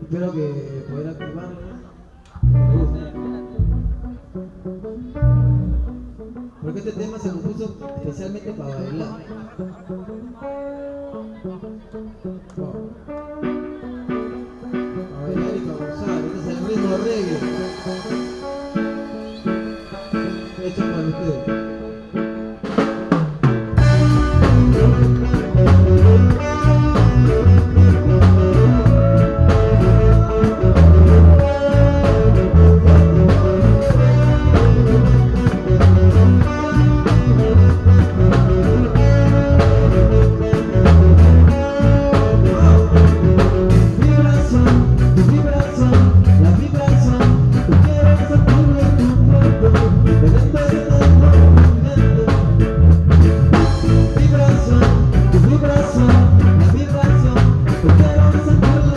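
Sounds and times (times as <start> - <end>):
reggae band playing: 0.0 - 58.9
heavy bass line: 2.4 - 7.1, 14.4 - 58.9.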